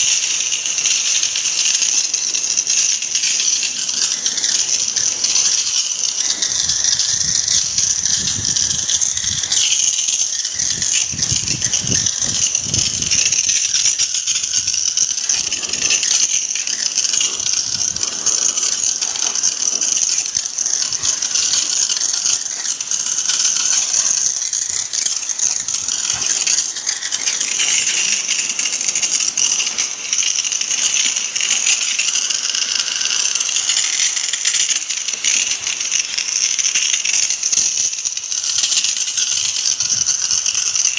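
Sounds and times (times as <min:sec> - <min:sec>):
pressure washer jet hissing: 0:00.0 - 0:40.9
water spattering on metal: 0:00.0 - 0:40.9.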